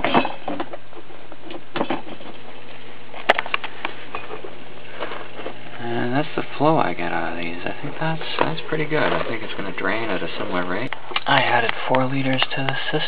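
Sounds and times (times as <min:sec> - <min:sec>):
low pump hum: 0:00.0 - 0:13.0.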